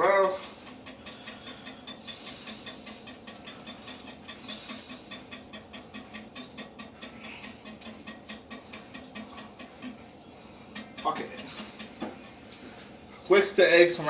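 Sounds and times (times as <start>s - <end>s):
eggs whisked in a bowl: 0.0s - 14.0s.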